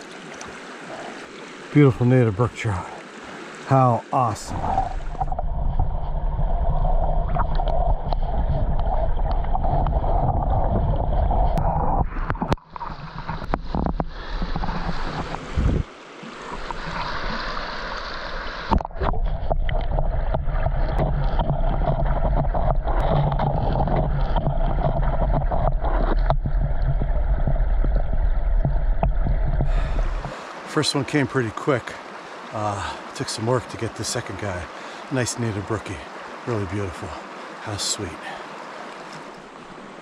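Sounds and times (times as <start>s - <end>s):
muffled underwater stream rush: 0.0s - 40.0s.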